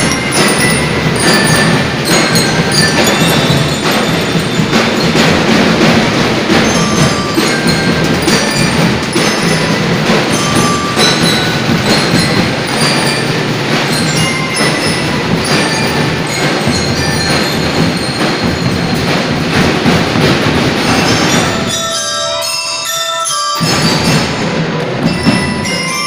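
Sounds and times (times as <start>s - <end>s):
marching drums: 0.0s - 22.2s, 23.6s - 26.0s
bell lyres playing melody: 0.0s - 26.0s.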